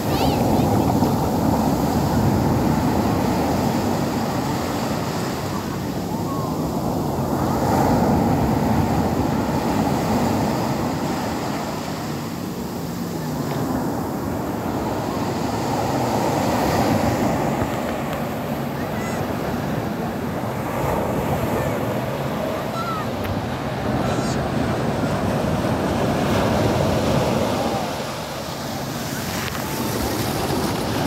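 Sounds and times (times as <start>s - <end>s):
waves crashing on a beach: 0.0s - 31.0s.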